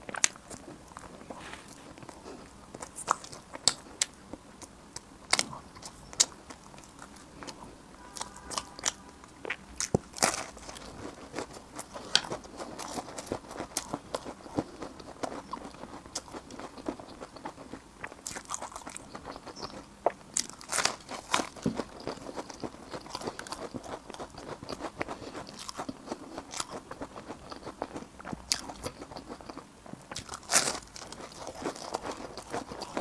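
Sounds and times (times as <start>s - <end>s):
crunchy bites and chewing: 0.0s - 33.0s.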